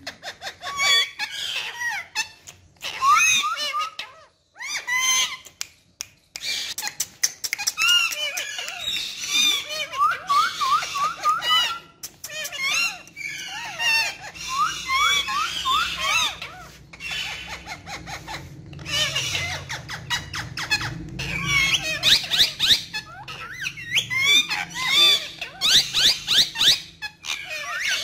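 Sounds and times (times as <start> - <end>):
parakeets chirping and squawking: 0.0 - 5.6, 6.4 - 28.0.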